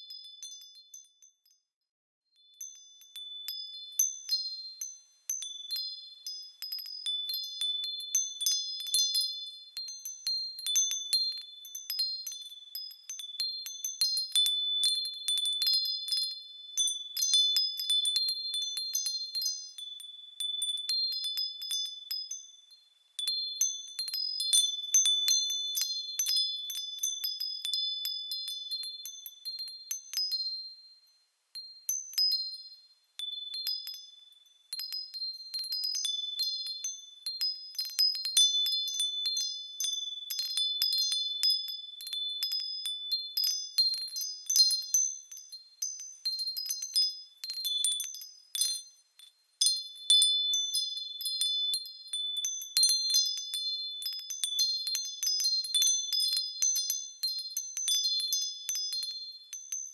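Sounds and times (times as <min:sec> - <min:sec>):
small bells ringing: 0:02.4 - 0:59.9.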